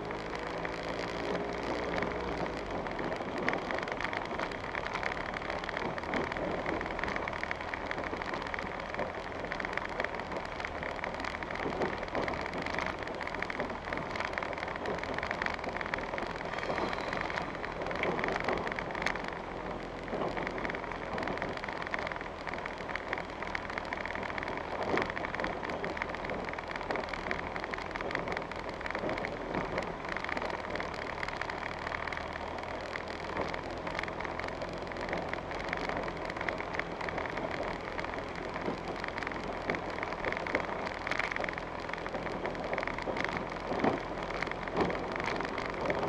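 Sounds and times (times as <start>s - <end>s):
tyres rumbling on dirt track: 0.0s - 46.0s.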